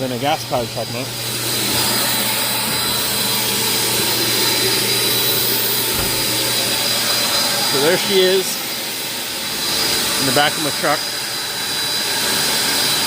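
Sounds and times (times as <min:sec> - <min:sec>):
vacuum motors rushing: 0:00.4 - 0:13.0.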